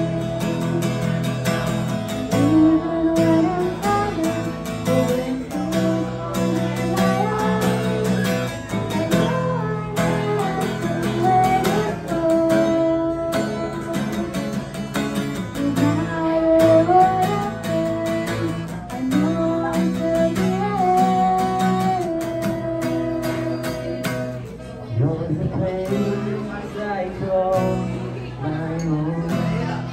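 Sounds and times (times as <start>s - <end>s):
acoustic guitar strumming: 0.0s - 29.9s
woman singing: 2.1s - 14.6s, 15.4s - 29.3s.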